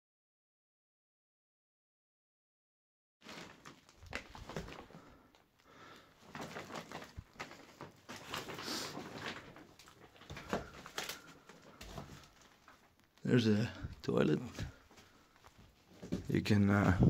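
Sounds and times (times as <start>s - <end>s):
footsteps crunching over rubble: 3.2s - 17.0s.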